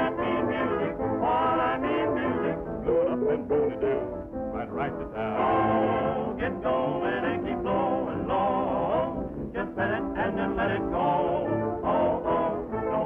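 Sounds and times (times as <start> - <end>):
brass band playing bouncy tune: 0.0 - 13.0.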